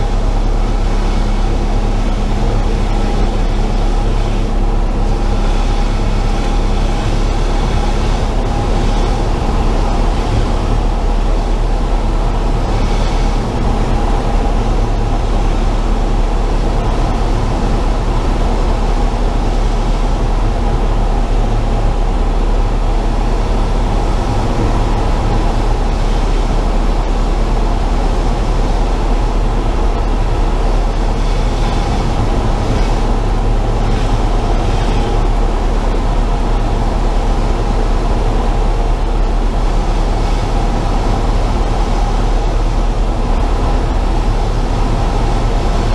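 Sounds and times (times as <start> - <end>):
aircraft engine and propeller drone: 0.0 - 45.9
airflow: 0.0 - 45.9.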